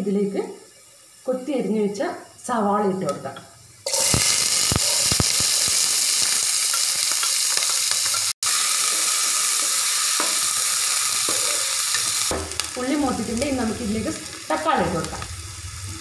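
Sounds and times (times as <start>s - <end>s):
onions sizzling in hot oil: 0.1s - 16.0s.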